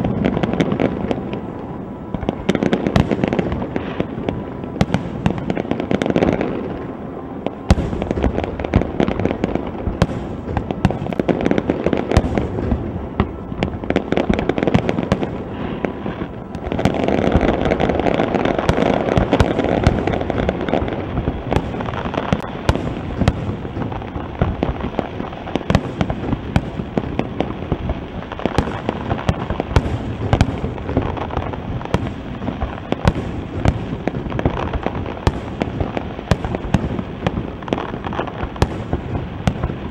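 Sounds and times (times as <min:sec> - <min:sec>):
fireworks crackling: 0:00.0 - 0:39.9
sharp firework report: 0:00.0 - 0:39.9.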